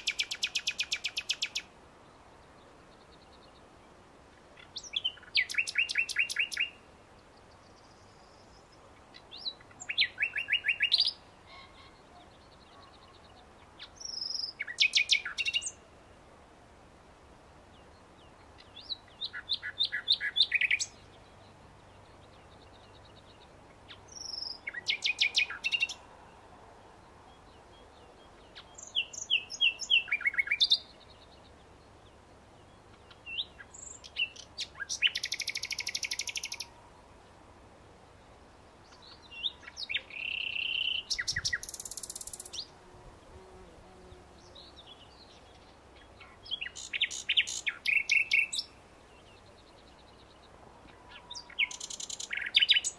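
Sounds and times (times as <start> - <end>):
nightingale singing: 0.0 - 3.7, 4.3 - 15.9, 17.7 - 26.1, 27.0 - 36.8, 38.2 - 42.8, 44.2 - 52.9.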